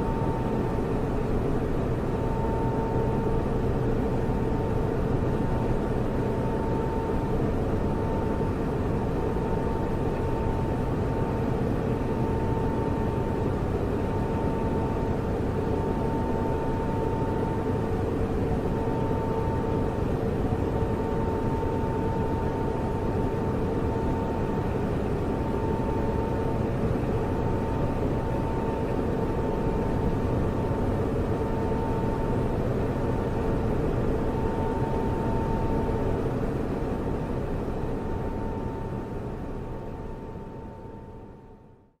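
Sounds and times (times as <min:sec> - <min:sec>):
hum: 0:00.0 - 0:41.9
server cooling fans whirring: 0:00.0 - 0:42.0.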